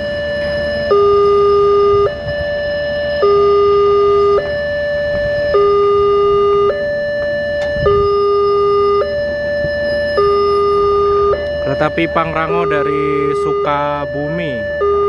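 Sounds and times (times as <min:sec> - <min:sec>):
level-crossing two-tone alarm: 0:00.0 - 0:15.0.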